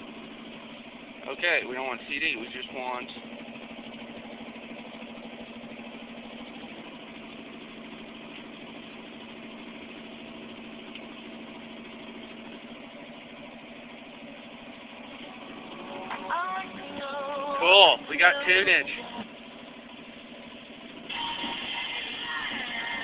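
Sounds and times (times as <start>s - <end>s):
pickup truck engine idling: 0.0s - 23.0s.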